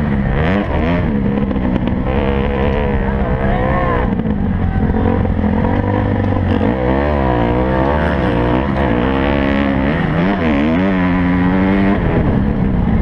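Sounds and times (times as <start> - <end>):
motorbike engine revving: 0.0 - 13.0
steady low drone: 0.0 - 13.0.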